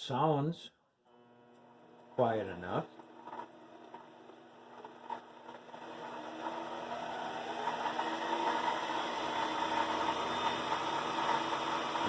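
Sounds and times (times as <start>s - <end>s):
lathe humming: 1.1s - 12.0s.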